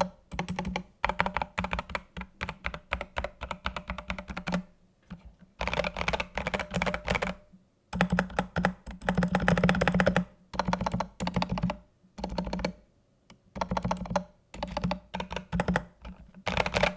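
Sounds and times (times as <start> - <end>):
mechanical keyboard typing: 0.0 - 7.4, 8.0 - 12.8, 13.6 - 16.9.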